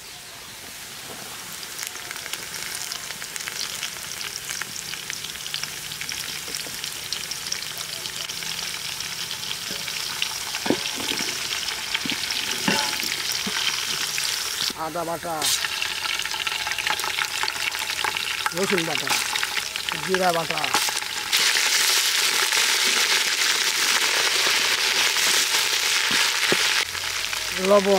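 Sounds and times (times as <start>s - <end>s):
spices sizzling in hot oil: 0.1s - 27.9s.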